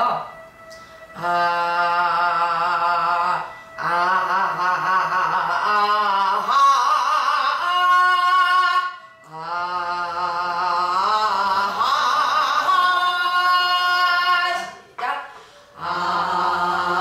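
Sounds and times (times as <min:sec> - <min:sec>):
woman singing long vibrato notes: 0:00.0 - 0:17.0.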